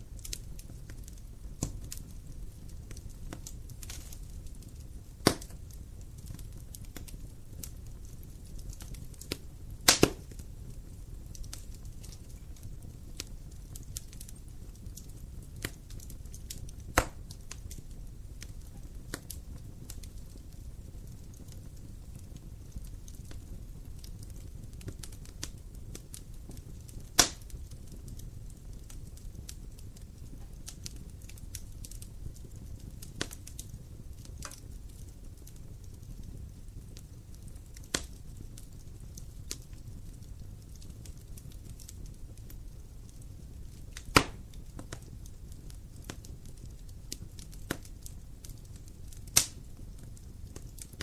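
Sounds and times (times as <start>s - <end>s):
loud pops of fire: 0.0s - 51.0s
wood fire crackling: 0.0s - 51.0s.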